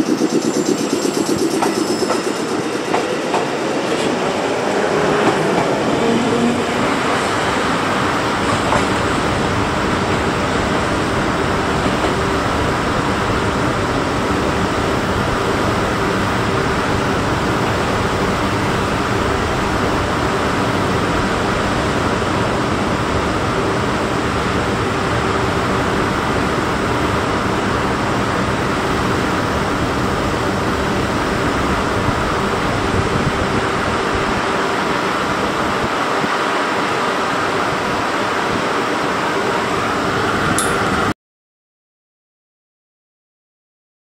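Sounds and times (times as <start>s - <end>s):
train cooling blowers whirring: 0.0s - 41.1s.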